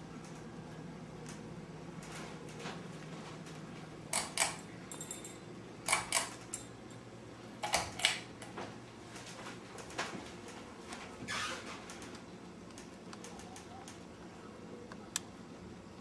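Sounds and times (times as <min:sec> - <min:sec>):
fan motor humming: 0:00.0 - 0:16.0.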